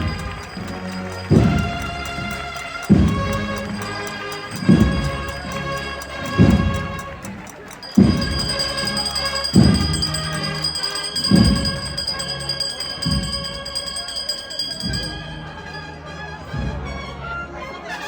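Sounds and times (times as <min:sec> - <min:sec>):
band playing slow march: 0:00.0 - 0:17.2.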